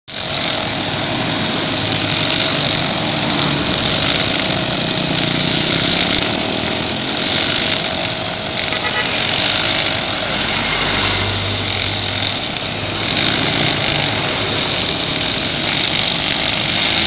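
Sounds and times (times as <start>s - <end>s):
string trimmer running: 0.1s - 17.0s
trimmer line hissing through grass: 0.1s - 17.0s.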